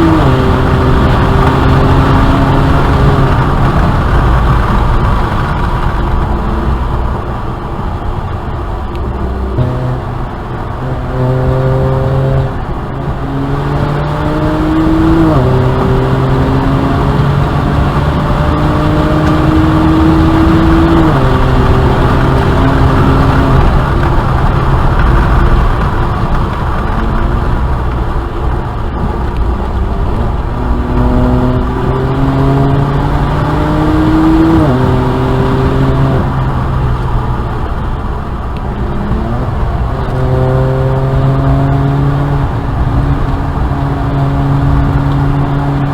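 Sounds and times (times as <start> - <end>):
car engine accelerating hard: 0.0 - 45.9
road and wind noise: 0.0 - 45.9.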